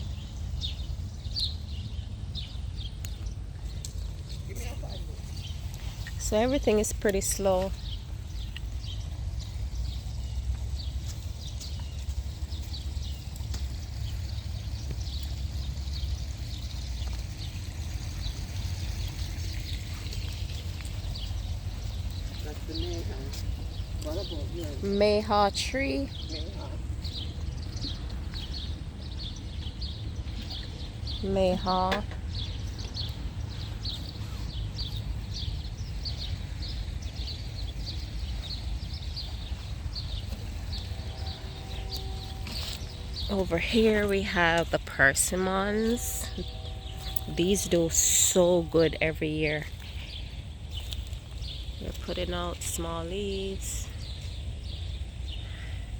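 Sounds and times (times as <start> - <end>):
small birds chirping: 0.0 - 55.9
wind rumble on microphone: 0.0 - 55.9.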